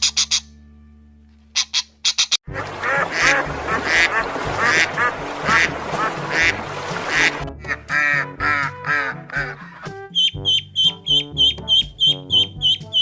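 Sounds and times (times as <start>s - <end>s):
duck quacking: 0.0s - 0.5s, 1.5s - 13.0s
background music with bass line: 2.4s - 13.0s.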